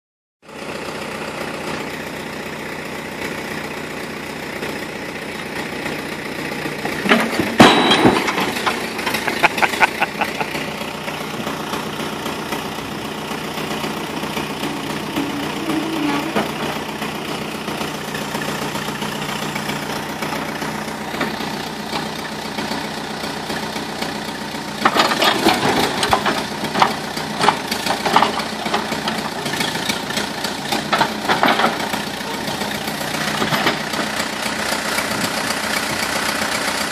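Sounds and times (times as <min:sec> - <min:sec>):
backhoe engine running: 0:00.4 - 0:36.9.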